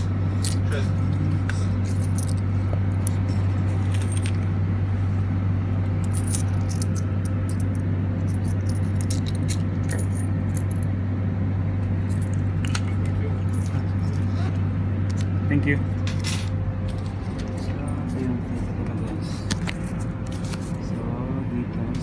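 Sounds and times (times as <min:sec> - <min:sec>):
vehicle interior low hum: 0:00.0 - 0:22.0.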